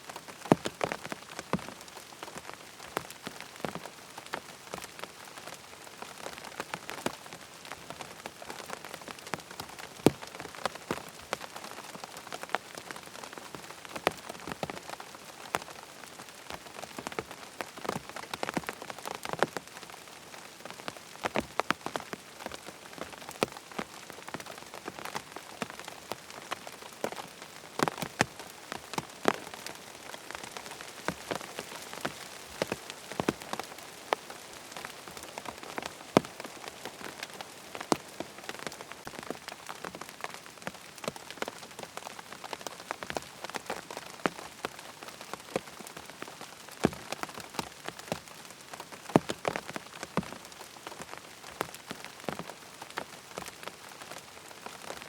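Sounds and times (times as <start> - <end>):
rain pattering on a tent: 0.0 - 55.0.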